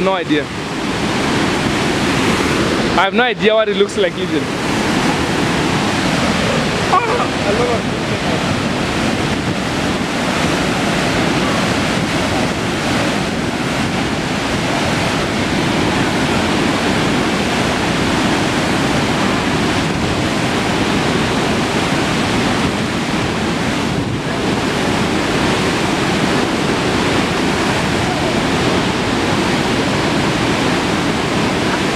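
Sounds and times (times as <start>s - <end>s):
floodwater rushing over spillway: 0.0s - 31.9s.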